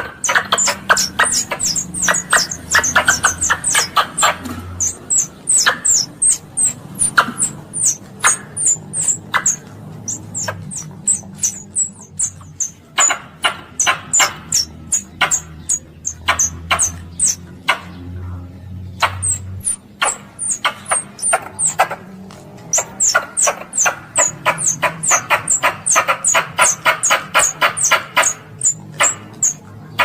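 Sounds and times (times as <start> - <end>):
squirrel high-pitched chirps: 0.0 - 17.5, 19.0 - 22.0, 22.7 - 29.6.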